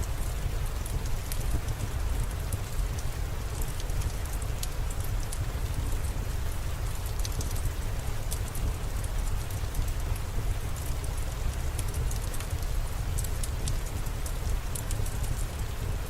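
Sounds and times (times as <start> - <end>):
steady rain falling: 0.0 - 16.0
sharp raindrop ticks: 0.1 - 16.0.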